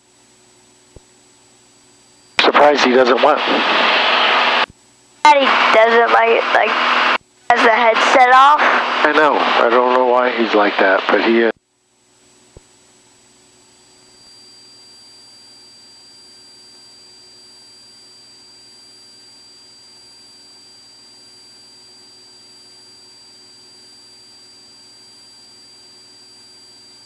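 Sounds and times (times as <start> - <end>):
low hum: 0.6 - 27.0
high-pitched electronic whine: 2.1 - 4.7, 5.3 - 11.6, 12.2 - 27.0.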